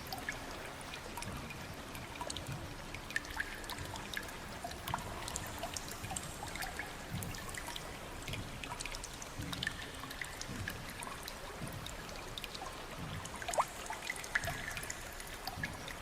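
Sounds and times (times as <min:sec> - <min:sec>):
water drips and splashes: 0:00.0 - 0:16.0
water trickling: 0:00.0 - 0:16.0.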